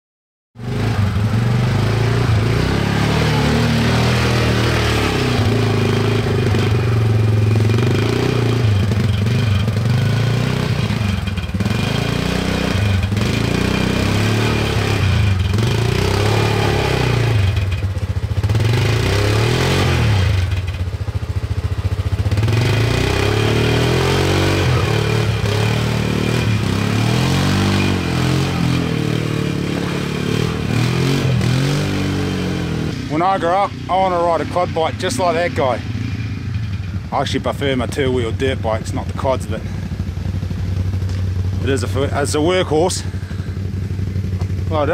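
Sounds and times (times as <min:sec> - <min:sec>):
quad bike engine revving: 0:00.6 - 0:44.9.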